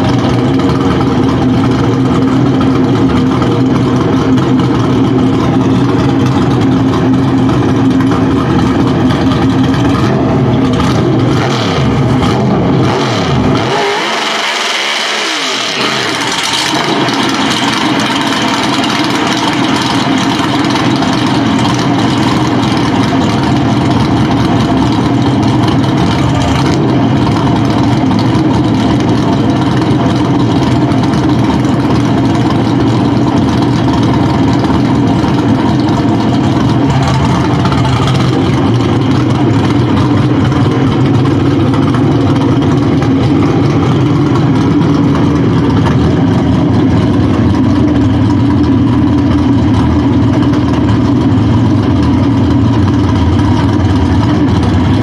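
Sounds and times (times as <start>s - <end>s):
race car engine idling loudly: 0.0s - 55.0s.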